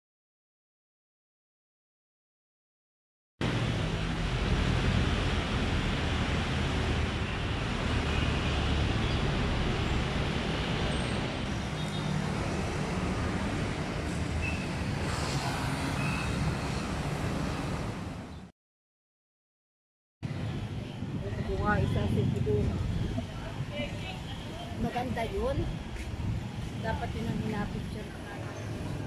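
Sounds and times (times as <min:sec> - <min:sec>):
cars and motorcycles passing: 0:03.4 - 0:18.5, 0:20.3 - 0:29.0.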